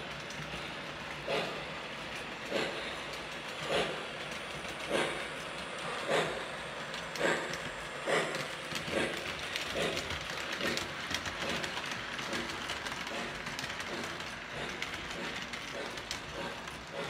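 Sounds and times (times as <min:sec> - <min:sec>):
model train wheels rumbling on rails: 0:00.0 - 0:17.0
track clacking: 0:00.0 - 0:17.0.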